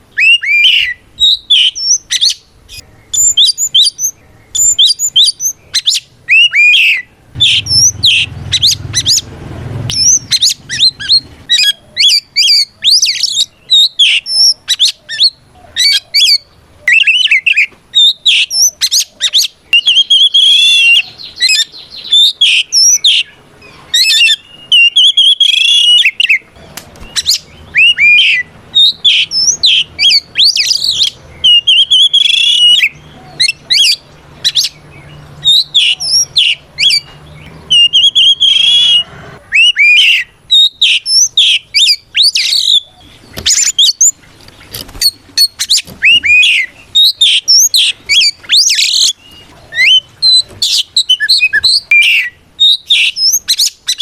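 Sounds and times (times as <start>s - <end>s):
magpie-robin singing: 0.0s - 54.0s.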